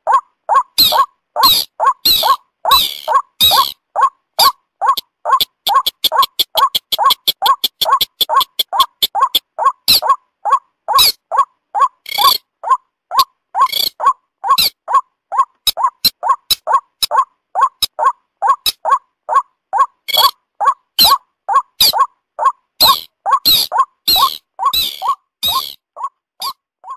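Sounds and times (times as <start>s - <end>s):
higher harsh bird calls: 0.0s - 26.9s
short croaking bird calls: 0.0s - 26.9s.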